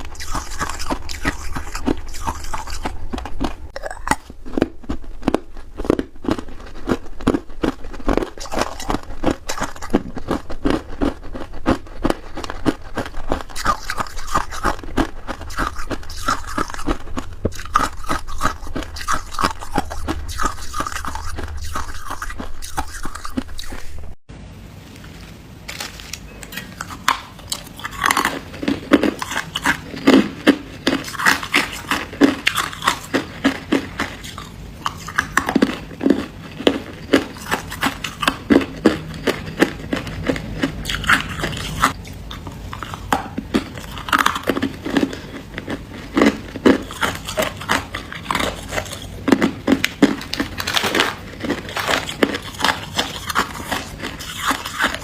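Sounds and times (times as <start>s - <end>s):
frost being chewed: 0.0s - 24.2s, 25.8s - 55.0s.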